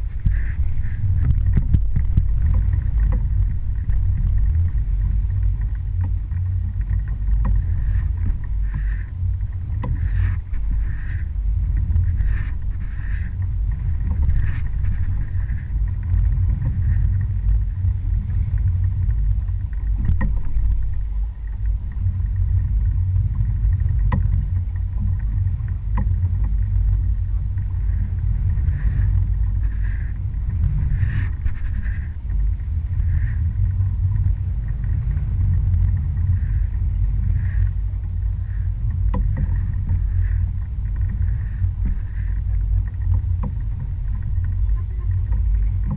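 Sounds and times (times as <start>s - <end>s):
boat engine rumbling: 0.0s - 45.9s
water noise: 0.0s - 45.9s
wind: 0.0s - 45.9s.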